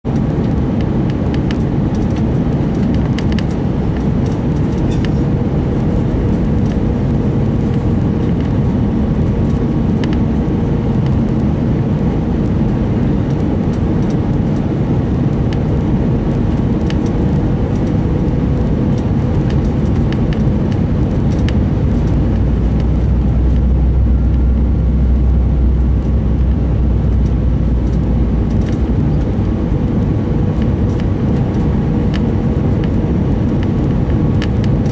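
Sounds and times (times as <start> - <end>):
aircraft engines and airflow roar: 0.0 - 34.9
deep rumble: 0.0 - 34.9
steady cabin hum: 0.1 - 34.9.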